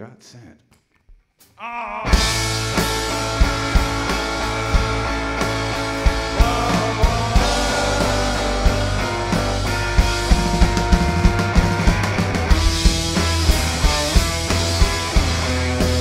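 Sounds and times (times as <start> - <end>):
electric guitars ringing: 1.7 - 16.0
drum kit playing: 2.0 - 16.0.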